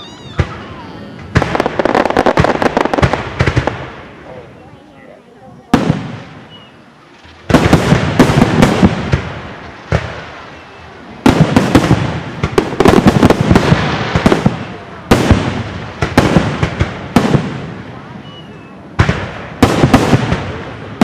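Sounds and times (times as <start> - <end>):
fireworks bangs: 0.0 - 4.8, 5.6 - 21.0.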